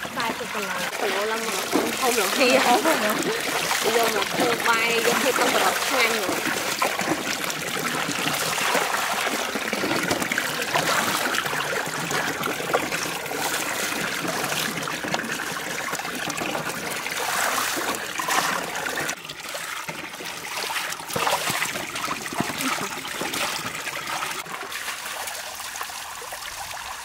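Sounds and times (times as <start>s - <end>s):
water splashing in a basin: 0.0s - 27.0s.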